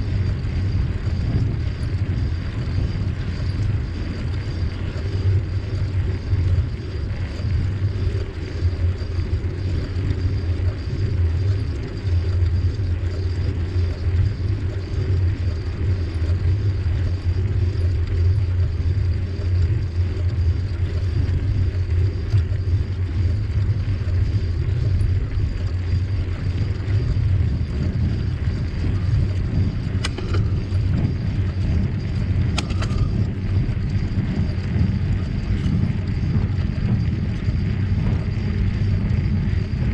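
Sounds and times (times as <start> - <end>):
bicycle tyres rolling on trail: 0.0 - 39.9
wind buffeting microphone: 0.0 - 39.9.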